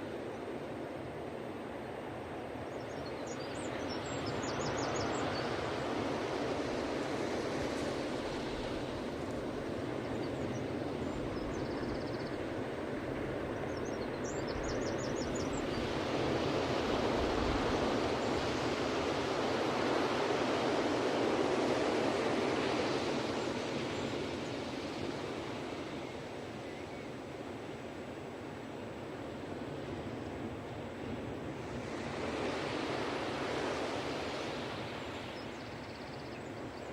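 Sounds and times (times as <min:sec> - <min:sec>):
ocean waves washing onto beach: 0:03.4 - 0:36.9.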